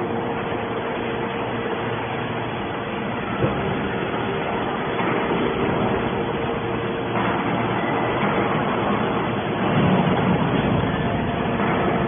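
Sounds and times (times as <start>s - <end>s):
hydraulic baler humming: 0.0s - 12.0s.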